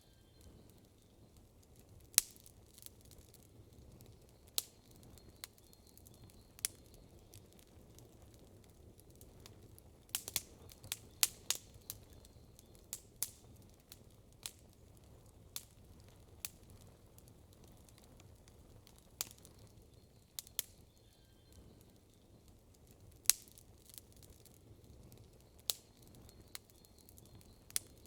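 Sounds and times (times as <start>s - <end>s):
low hiss of burning fire: 0.0s - 28.0s
campfire crackling pops: 0.3s - 28.0s.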